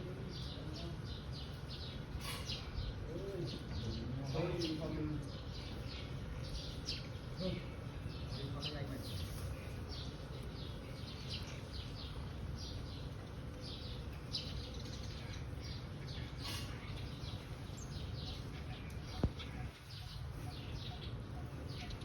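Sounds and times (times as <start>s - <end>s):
small bird chirping: 0.1s - 22.0s.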